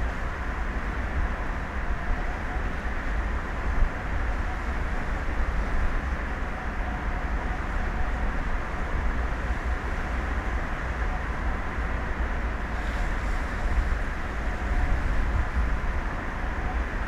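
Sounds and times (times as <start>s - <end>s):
sea: 0.0s - 17.0s.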